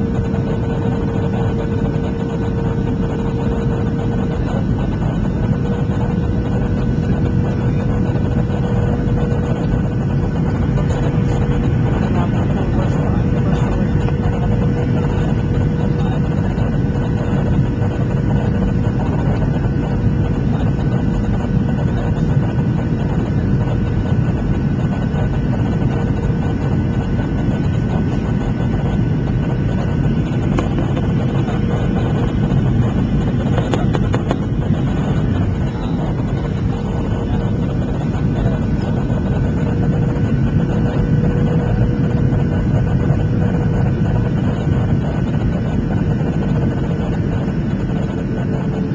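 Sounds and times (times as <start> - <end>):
airflow rushing in cabin: 0.0 - 48.9
jet engine drone: 0.0 - 48.9
steady whining tones: 0.0 - 48.9.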